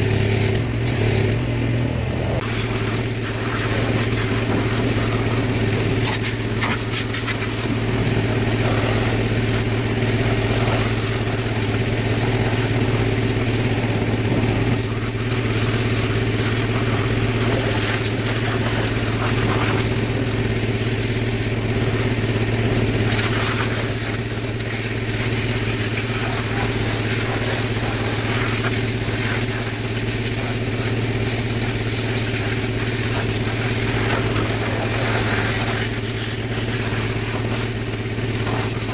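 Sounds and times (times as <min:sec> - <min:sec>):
pressure washer motor hum: 0:00.0 - 0:38.9
water jet hissing: 0:02.4 - 0:38.9.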